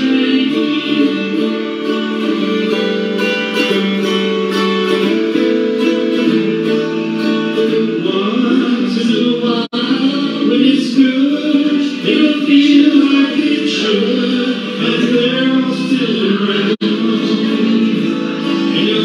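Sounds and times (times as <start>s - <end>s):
acoustic guitar strummed: 0.0s - 19.0s.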